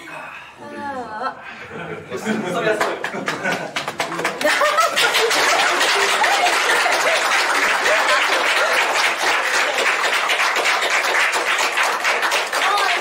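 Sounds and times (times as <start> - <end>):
group clapping: 2.3 - 13.0.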